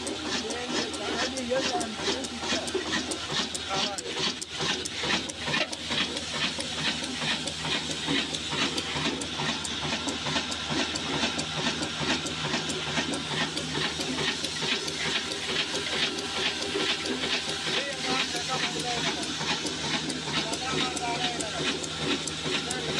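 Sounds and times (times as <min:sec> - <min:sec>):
diesel engine knocking steadily: 0:00.0 - 0:22.9.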